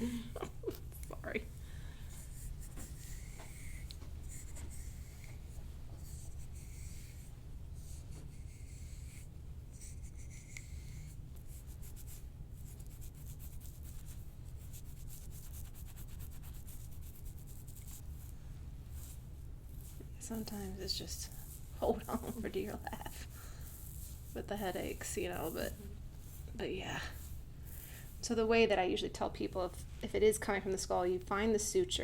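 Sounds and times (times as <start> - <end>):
hands rubbing neck and head: 0.0 - 1.4, 2.1 - 28.8
steady low hum: 0.0 - 32.0.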